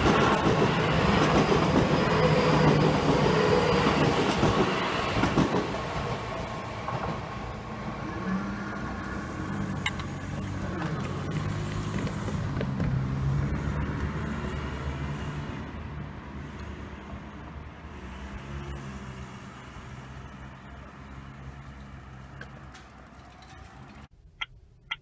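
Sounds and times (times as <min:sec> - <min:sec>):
electric train rumble and hum: 0:00.0 - 0:24.9.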